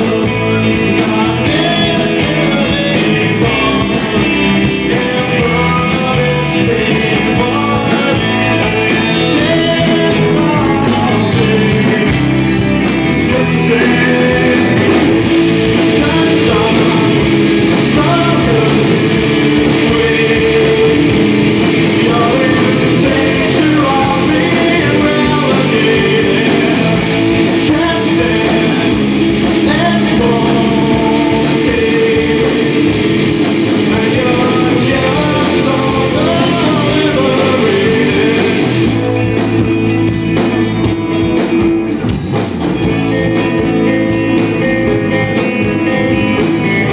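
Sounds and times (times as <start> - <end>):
man singing: 0.0 - 41.0, 42.8 - 46.9
distorted electric guitars: 0.0 - 46.9
drums: 0.0 - 46.9.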